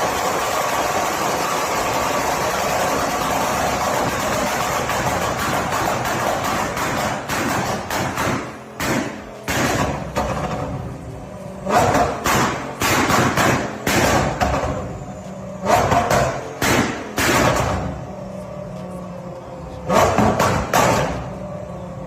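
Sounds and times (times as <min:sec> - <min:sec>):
sharp exhaust bangs: 0:00.0 - 0:18.6, 0:19.8 - 0:21.8
engine throttle blips: 0:00.0 - 0:22.0
sports car engine idling: 0:00.0 - 0:22.0.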